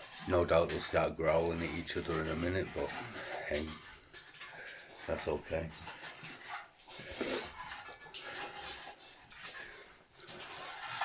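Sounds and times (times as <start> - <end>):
dogs crunching food: 0.0 - 11.0.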